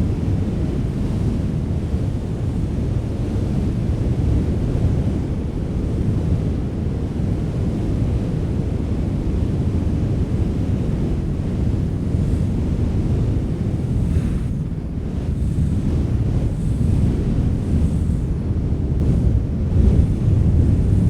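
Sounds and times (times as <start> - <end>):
strong wind rumbling: 0.0 - 21.0.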